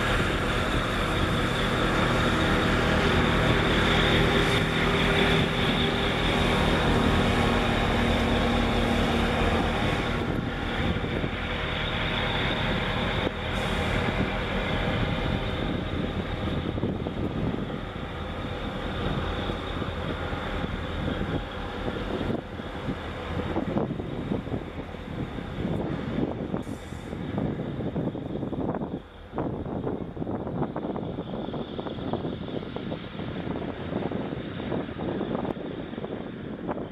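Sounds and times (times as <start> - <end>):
ship diesel engine drone: 0.0 - 36.9.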